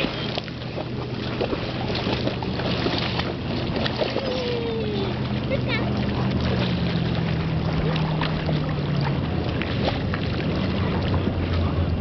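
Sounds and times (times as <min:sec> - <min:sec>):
low engine hum: 0:00.0 - 0:12.0
water splashing: 0:00.0 - 0:12.0.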